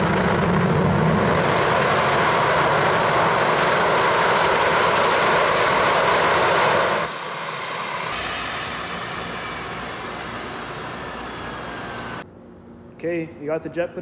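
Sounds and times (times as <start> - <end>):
turbine engine roaring: 0.0 - 12.2
turbine whine winding down: 0.0 - 12.2.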